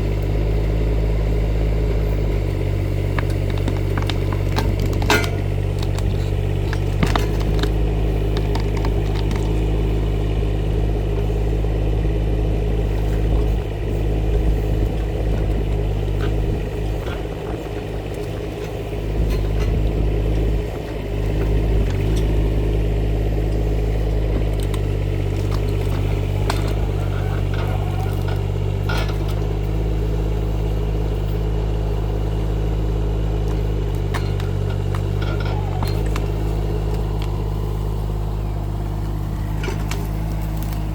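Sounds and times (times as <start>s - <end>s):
mini excavator engine running: 0.0s - 40.9s.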